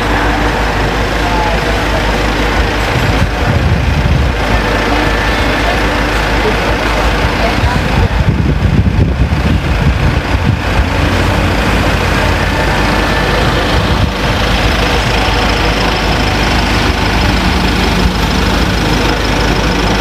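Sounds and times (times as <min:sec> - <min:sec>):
large engine idling: 0:00.0 - 0:20.0.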